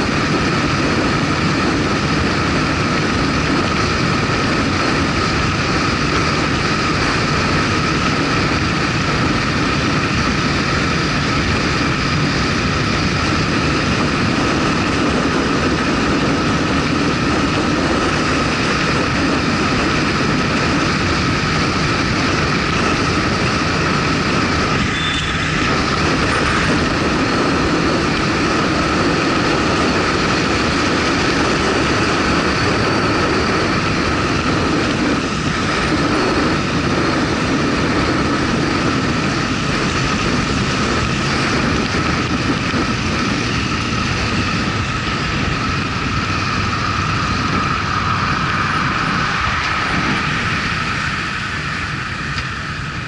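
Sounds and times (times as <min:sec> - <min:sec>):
motorcycle engine drone: 0:00.0 - 0:53.0
wind and road noise: 0:00.0 - 0:53.0.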